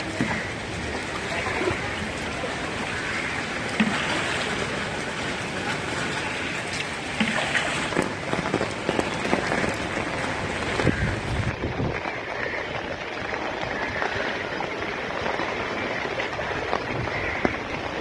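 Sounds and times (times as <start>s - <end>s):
heavy rain hissing: 0.0s - 18.0s
water splashing: 0.0s - 18.0s.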